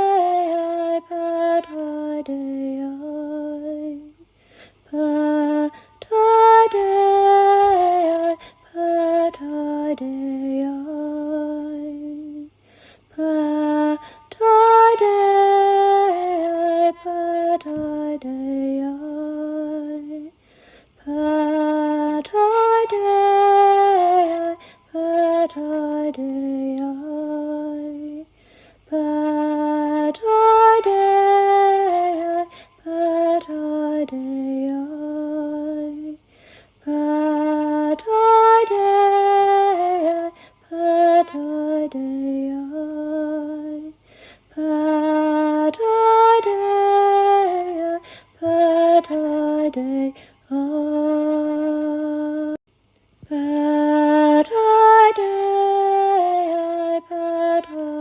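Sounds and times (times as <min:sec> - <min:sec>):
woman singing a chant: 0:00.0 - 0:52.6, 0:53.2 - 0:58.0.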